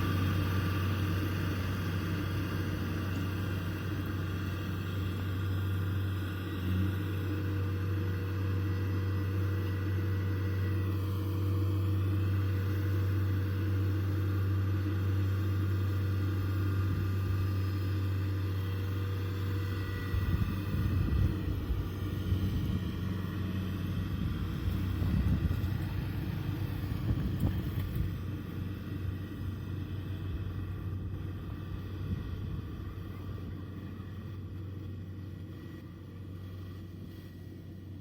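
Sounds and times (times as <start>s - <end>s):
combine harvester diesel engine: 0.0s - 38.0s.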